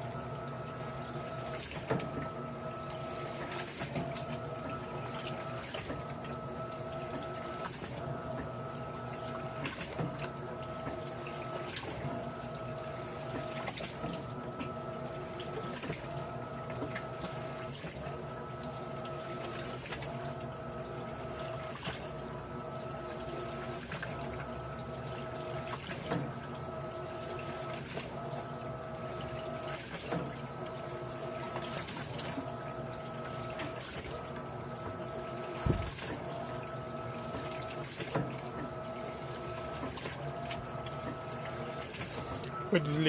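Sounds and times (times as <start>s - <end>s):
water pouring and swishing: 0.0s - 42.6s
washing machine hum: 0.0s - 43.0s.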